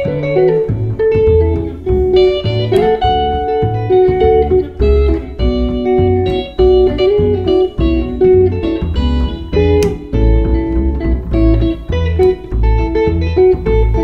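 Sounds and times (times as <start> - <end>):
picked guitar melody: 0.0 - 14.0
plucked double bass: 0.0 - 14.0.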